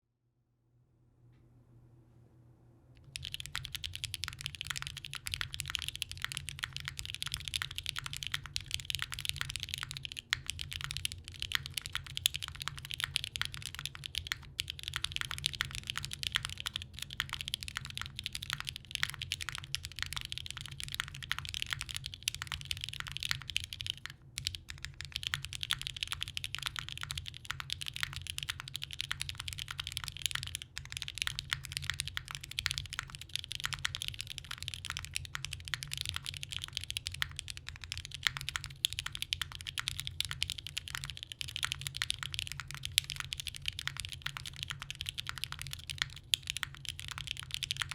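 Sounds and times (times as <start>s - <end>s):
mechanical keyboard typing: 3.0s - 47.9s.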